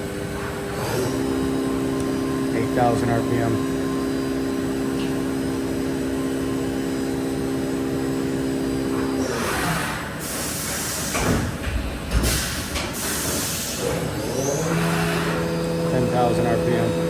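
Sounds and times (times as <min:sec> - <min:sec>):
machine spindle humming: 0:00.0 - 0:17.0.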